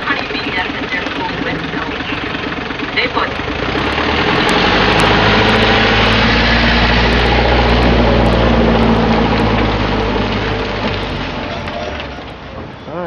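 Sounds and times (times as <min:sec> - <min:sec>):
engine running loudly: 0:00.0 - 0:12.7.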